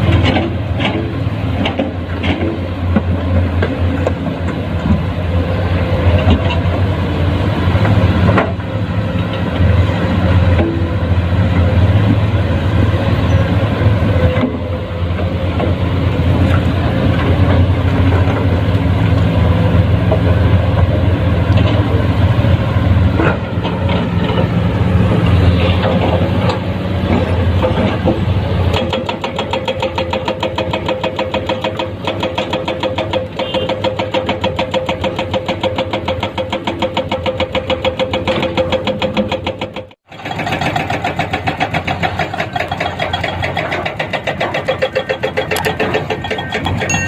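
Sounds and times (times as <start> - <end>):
excavator diesel engine drone: 0.0 - 47.0.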